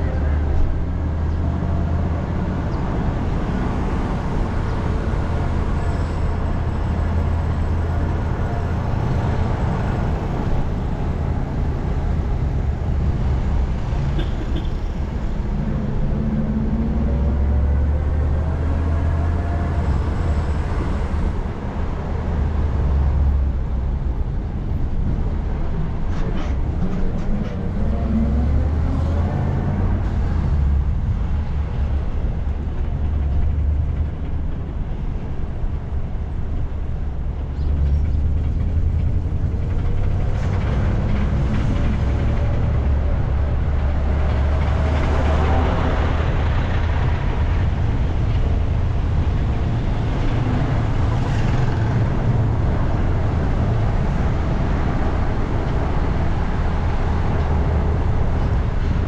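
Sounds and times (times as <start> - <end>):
minibus engine drone: 0.0 - 59.0
road rumble: 0.0 - 59.0.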